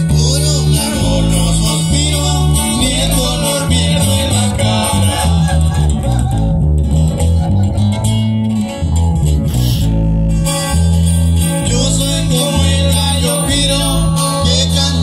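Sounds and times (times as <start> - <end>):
amplified guitars picking and strumming: 0.0 - 15.0
strong bass line: 0.0 - 15.0.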